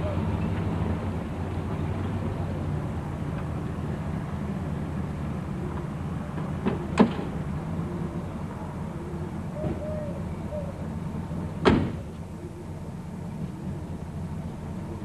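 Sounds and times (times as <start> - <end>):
car engine low hum: 0.0 - 15.0.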